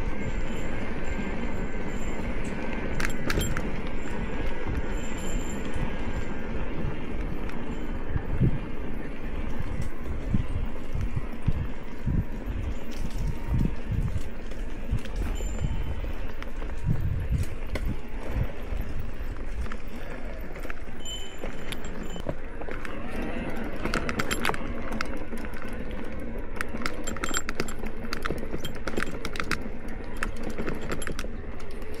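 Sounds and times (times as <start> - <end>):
bike clicks and rattles: 0.0 - 32.0
wind buffeting: 0.0 - 32.0.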